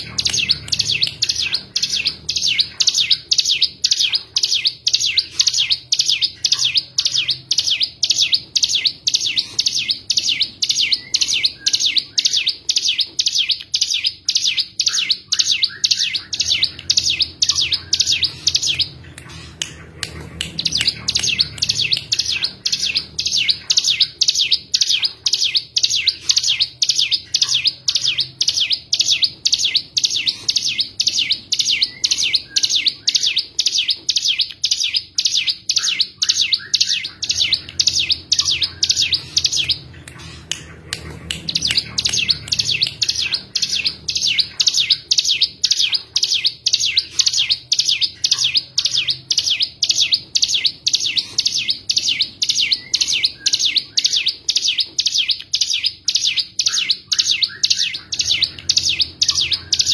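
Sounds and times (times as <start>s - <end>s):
bird song of high chip notes: 0.0s - 59.9s.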